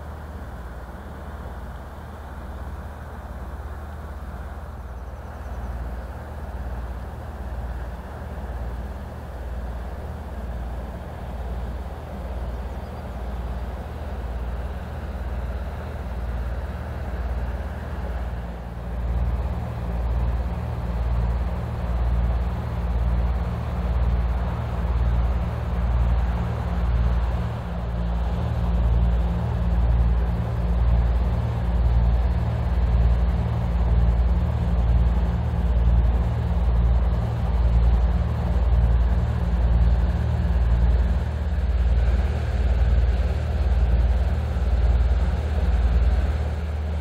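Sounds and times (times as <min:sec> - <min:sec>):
diesel engine throbbing hum: 0:00.0 - 0:47.0
wind: 0:00.0 - 0:47.0.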